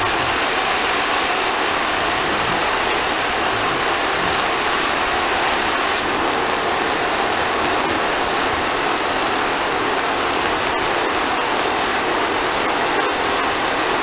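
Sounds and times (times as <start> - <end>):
faint crackles: 0.0 - 14.0.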